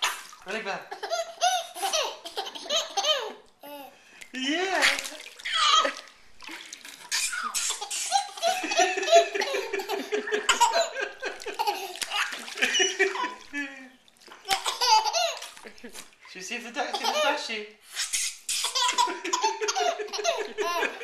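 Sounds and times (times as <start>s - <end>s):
baby laughing: 0.9s - 3.9s, 4.8s - 6.1s, 7.1s - 16.0s, 16.8s - 21.0s.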